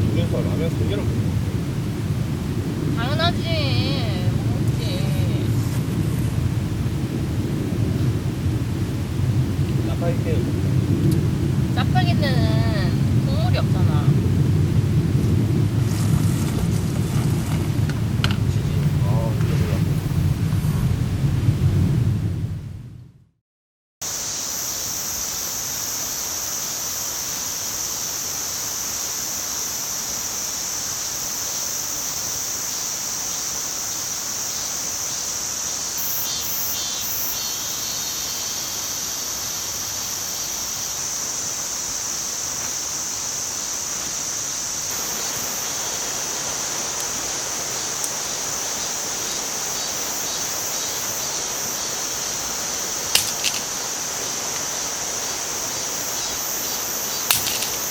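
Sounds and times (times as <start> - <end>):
insects trilling: 0.0 - 20.0, 24.0 - 57.9
even rushing hiss: 0.0 - 21.7, 24.0 - 57.9.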